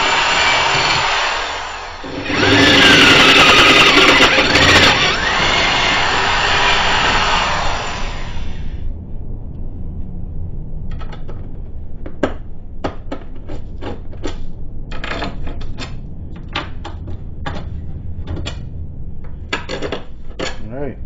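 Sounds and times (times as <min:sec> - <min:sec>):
low steady hum: 0:01.8 - 0:21.0.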